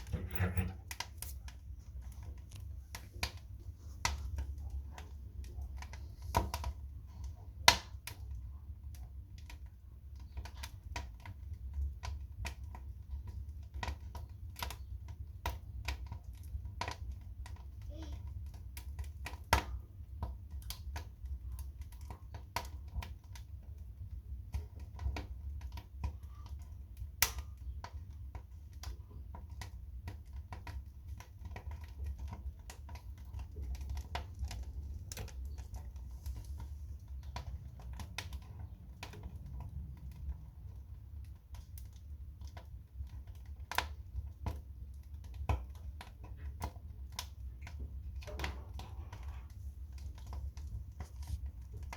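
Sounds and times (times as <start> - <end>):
fire crackling: 0.0 - 51.9.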